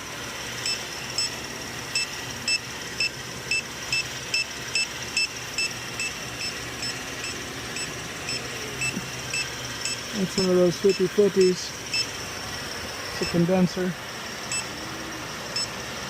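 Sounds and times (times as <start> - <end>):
engine humming: 0.0 - 16.0
leak detector beeping: 0.6 - 12.2, 13.1 - 13.8, 14.4 - 16.0.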